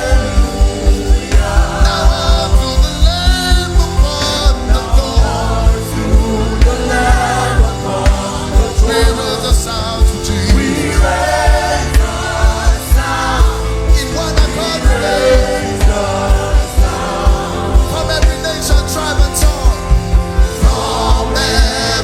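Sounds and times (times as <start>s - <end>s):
band with bass: 0.0s - 22.0s
fast steady drum beat: 0.0s - 22.0s
gospel singing: 0.0s - 22.0s.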